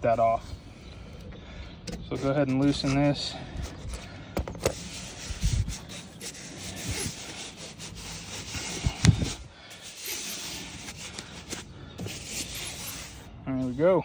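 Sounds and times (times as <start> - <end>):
foam insulation rubbing on pipe: 2.0 - 13.9.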